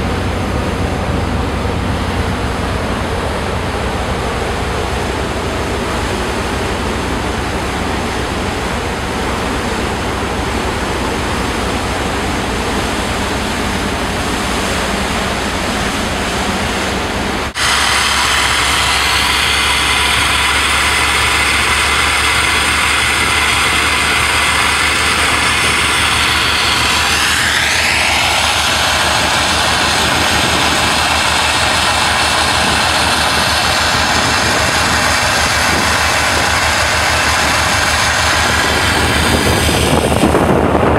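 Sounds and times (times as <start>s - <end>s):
boat engine running: 0.0s - 40.9s
pump whine: 0.0s - 40.9s
water cannon rushing: 0.0s - 40.9s
wind: 0.0s - 40.9s.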